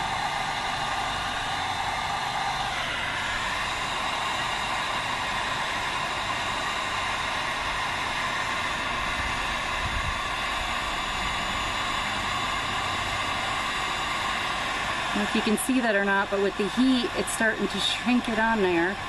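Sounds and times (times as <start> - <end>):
heat gun blowing: 0.0 - 19.0.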